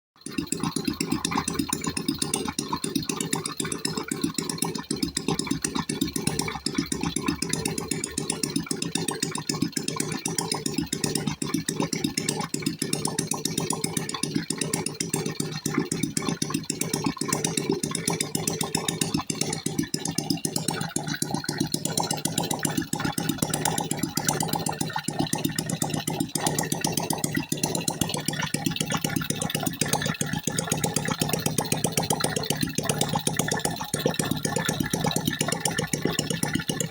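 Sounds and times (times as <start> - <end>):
engine idling: 0.5 - 36.9.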